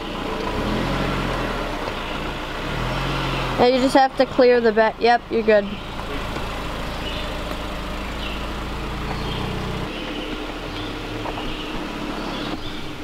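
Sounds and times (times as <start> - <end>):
suv engine running: 0.0 - 13.0.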